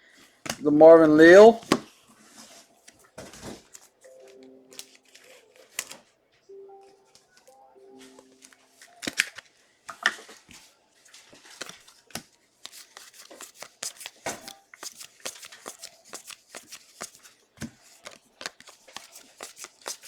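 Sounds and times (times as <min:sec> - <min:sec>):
trading cards rustling and flicking: 0:00.2 - 0:06.1, 0:07.1 - 0:20.0.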